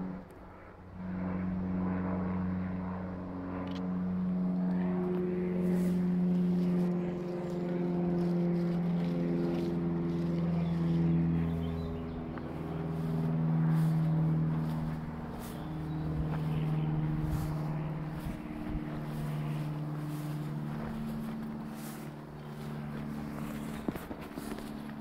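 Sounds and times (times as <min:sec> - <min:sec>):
motor engine droning hum: 0:00.0 - 0:25.0.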